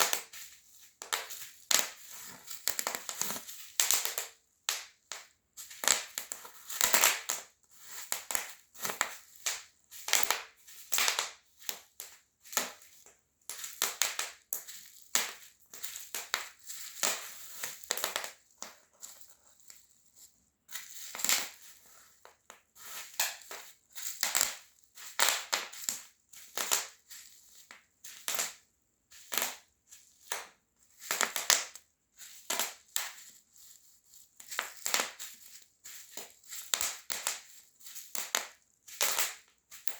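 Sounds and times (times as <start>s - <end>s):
bubble wrap popping underfoot: 0.0s - 39.9s.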